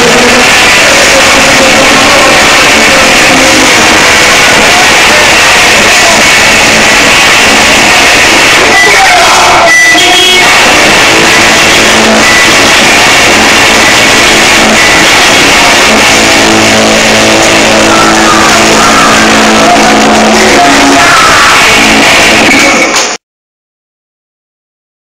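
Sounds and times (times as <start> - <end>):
electric guitar: 0.0 - 23.2
live rock music: 0.0 - 23.2.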